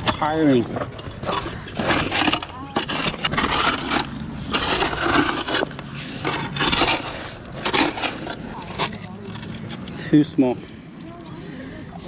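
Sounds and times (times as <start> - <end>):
shovel scraping gravel and stones: 0.0 - 10.6.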